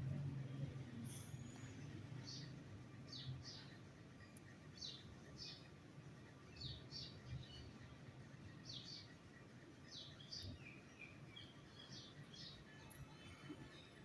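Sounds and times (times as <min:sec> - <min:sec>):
small birds chirping: 0:00.8 - 0:14.0.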